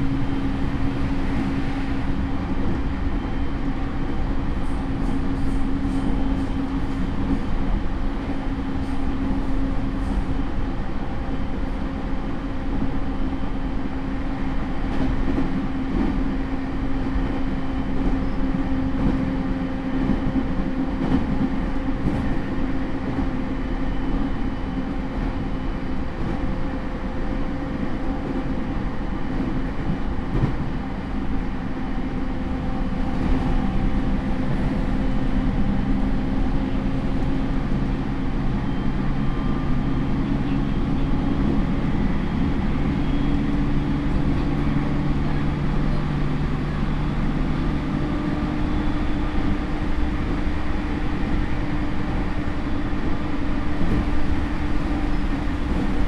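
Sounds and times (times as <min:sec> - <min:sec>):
wheel and rail rumble: 0:00.0 - 0:56.0.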